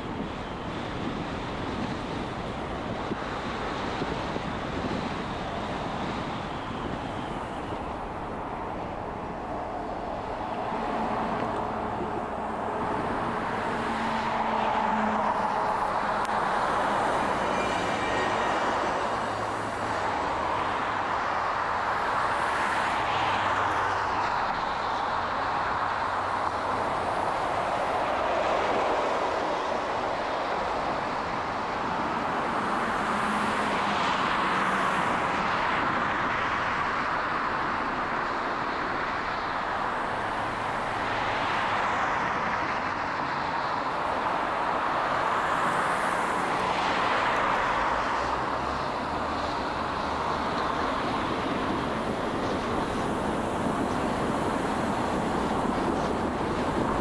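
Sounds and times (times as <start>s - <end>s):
cars passing: 0.0s - 57.0s
road traffic hum: 0.0s - 57.0s.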